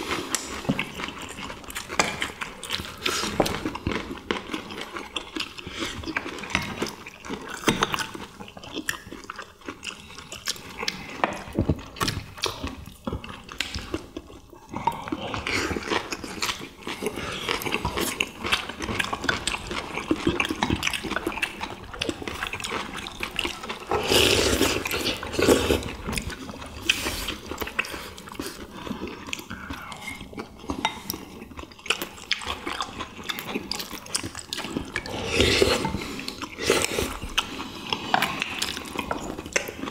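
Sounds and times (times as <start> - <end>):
people chewing and slurping soup: 0.0 - 39.9.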